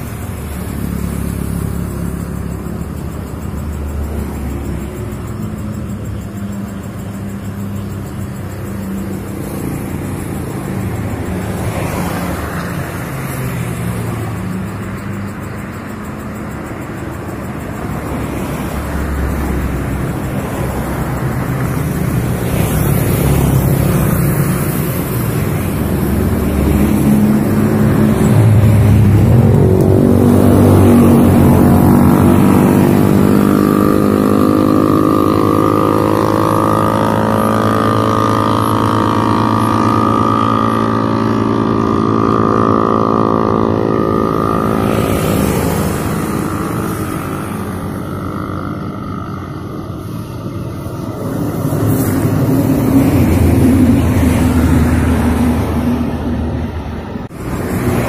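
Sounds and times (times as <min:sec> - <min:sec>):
cars driving past: 0:00.0 - 0:58.0
engine drone with pitched hum: 0:00.0 - 0:58.0.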